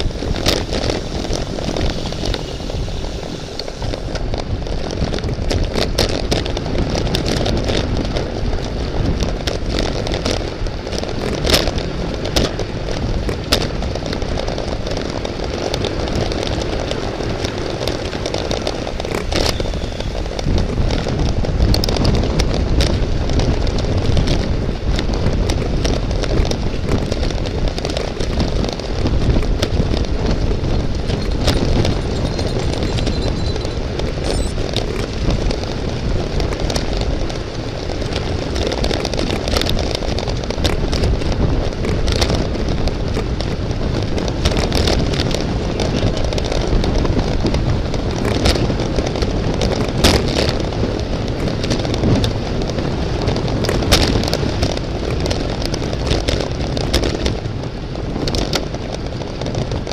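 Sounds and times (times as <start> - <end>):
sharp clicks and rattles: 0.0 - 57.5
road noise: 0.0 - 59.9
wind rush on microphone: 0.0 - 59.9.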